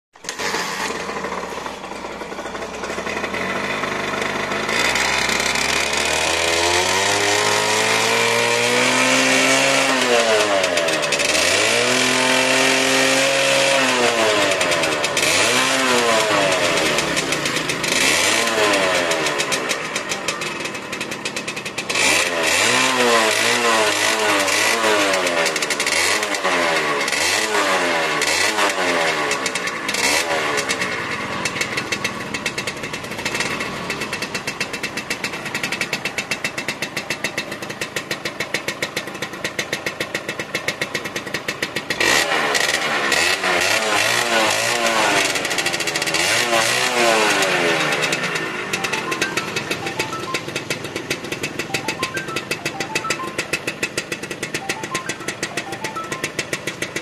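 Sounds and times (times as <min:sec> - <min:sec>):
motorcycle engine revving: 0:00.2 - 0:57.0.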